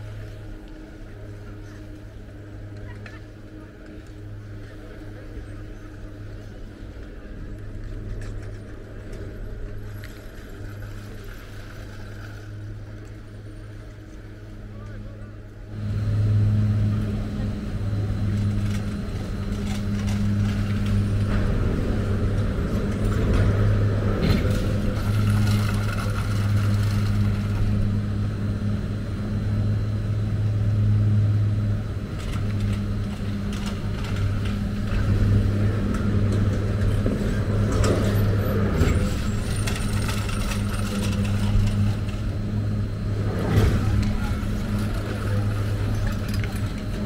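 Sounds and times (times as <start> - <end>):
gondola cabins clattering: 0.0 - 47.0
low electric machinery hum: 0.0 - 47.0
mechanical rumble: 0.0 - 47.0.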